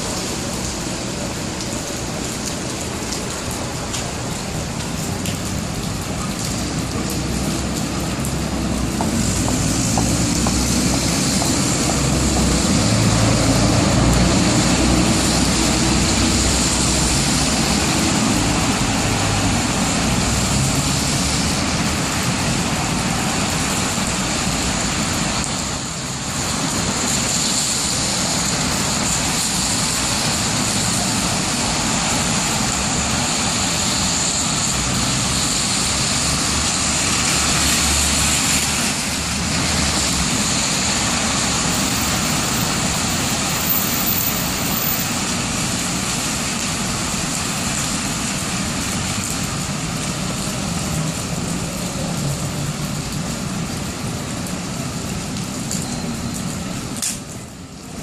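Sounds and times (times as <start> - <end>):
rain hissing: 0.0 - 58.0
traffic on wet pavement: 0.0 - 58.0.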